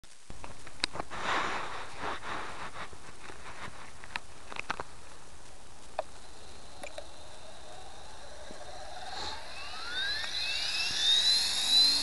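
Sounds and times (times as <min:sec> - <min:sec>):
rustling hiss: 0:00.0 - 0:12.0.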